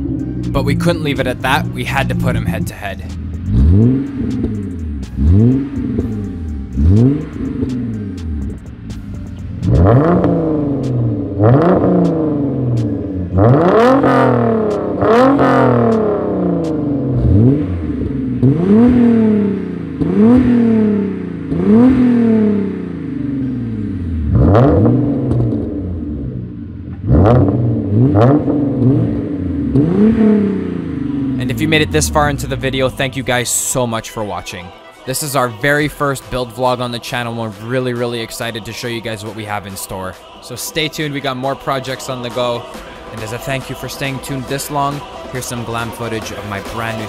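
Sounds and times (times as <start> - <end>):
car exhaust revving: 0.0 - 34.4, 35.2 - 47.0.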